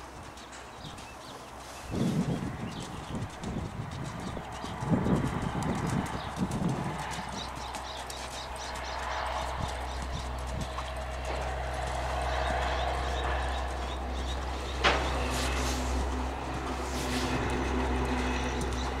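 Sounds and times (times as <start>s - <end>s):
hooves pounding sand: 0.0s - 19.0s
low background rumble: 1.9s - 19.0s.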